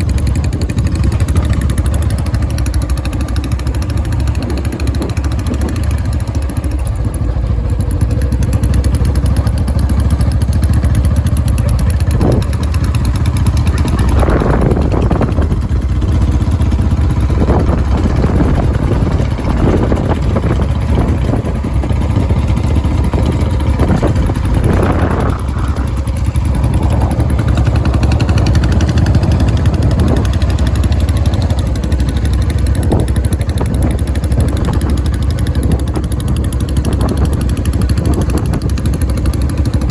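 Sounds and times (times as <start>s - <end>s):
motorcycle engine beat: 0.0s - 39.9s.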